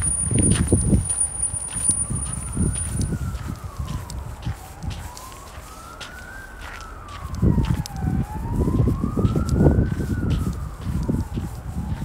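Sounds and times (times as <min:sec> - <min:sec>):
emergency siren wailing: 0:00.0 - 0:12.0
footsteps scuffing: 0:00.0 - 0:12.0.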